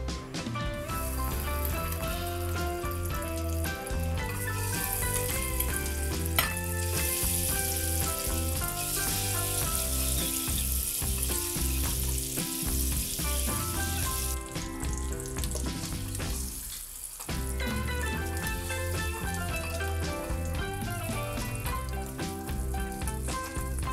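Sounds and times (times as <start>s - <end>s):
background music: 0.0s - 16.6s, 17.4s - 23.9s
eggs sizzling in hot oil: 0.0s - 23.9s
sharp crack: 0.0s - 23.9s.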